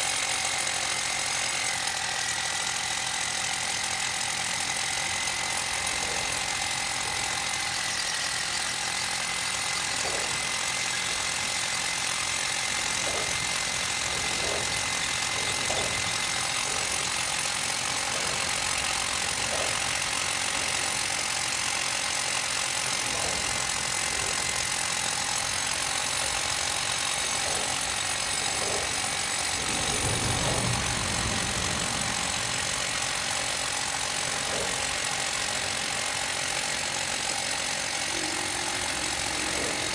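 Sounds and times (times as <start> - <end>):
hammer drill boring into concrete: 0.0 - 39.9.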